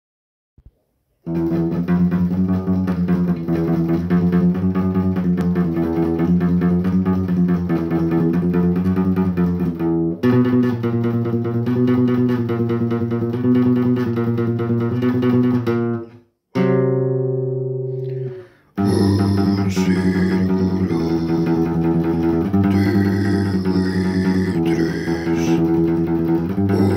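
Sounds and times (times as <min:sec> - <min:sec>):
plucked guitar riff: 0:01.3 - 0:26.9.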